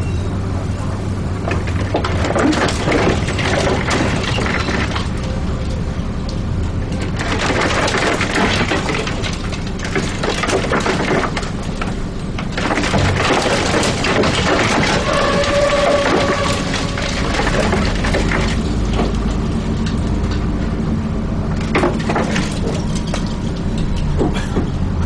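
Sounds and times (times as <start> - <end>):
bus engine and road drone: 0.0 - 25.0
rattling of bus body and windows: 0.0 - 25.0.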